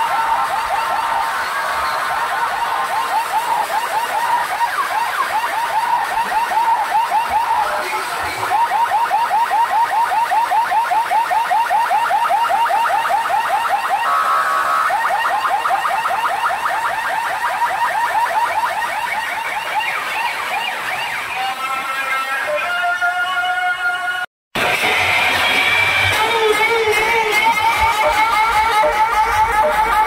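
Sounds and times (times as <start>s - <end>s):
electronic siren effect chirps: 0.0s - 22.9s, 24.6s - 30.0s.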